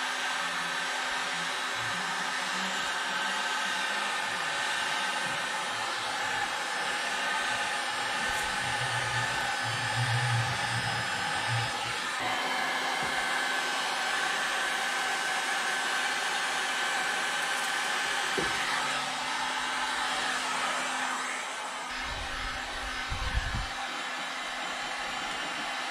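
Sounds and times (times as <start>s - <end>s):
heat gun blowing: 0.0s - 25.9s.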